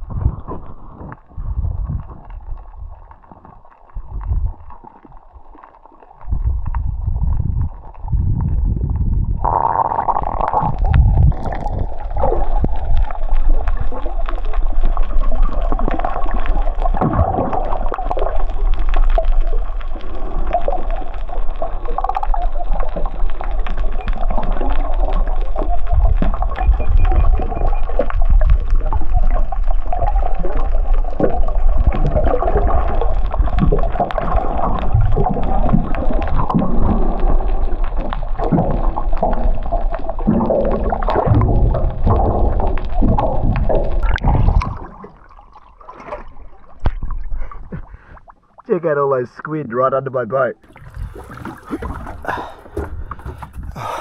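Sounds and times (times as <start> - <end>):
underwater water rushing: 0.0 - 49.1, 50.6 - 54.0
fast crackling clicks: 0.6 - 44.7.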